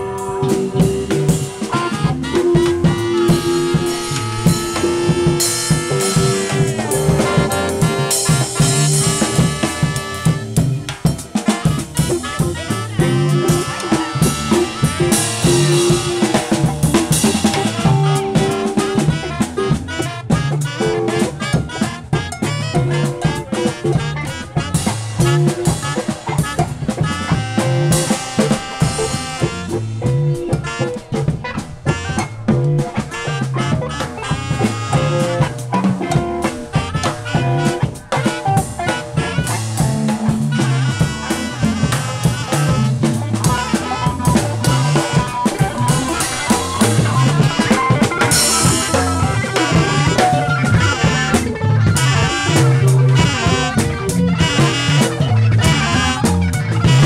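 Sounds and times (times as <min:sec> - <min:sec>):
bass guitar: 0:00.0 - 0:57.0
drum kit beat: 0:00.0 - 0:57.0
guitar: 0:00.0 - 0:57.0
saxophone: 0:00.0 - 0:57.0.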